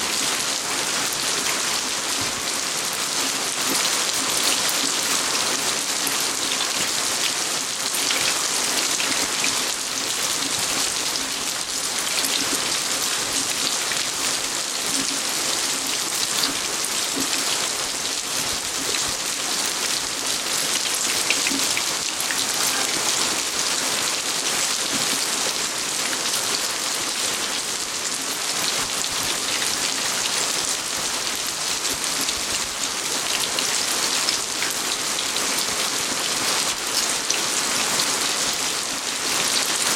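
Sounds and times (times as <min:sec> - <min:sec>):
rain falling on a garden: 0:00.0 - 0:39.9.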